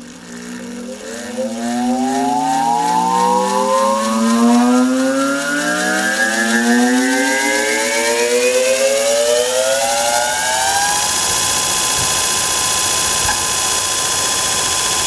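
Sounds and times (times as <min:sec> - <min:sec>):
electric motor starting up: 0:00.0 - 0:15.0.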